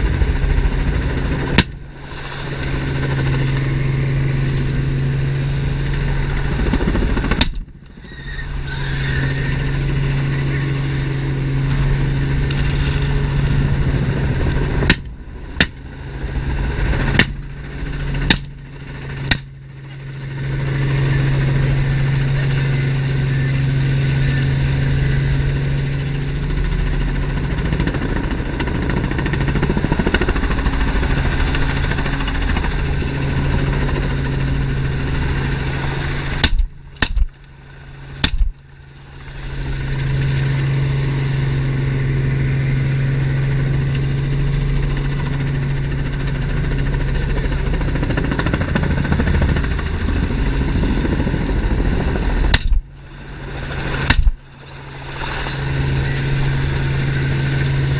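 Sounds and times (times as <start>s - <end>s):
helicopter engine and rotor drone: 0.0s - 57.9s.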